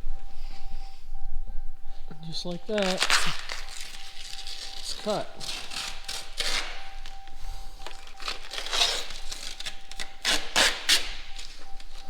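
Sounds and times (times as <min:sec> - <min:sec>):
plastic film crinkling: 0:02.3 - 0:12.0.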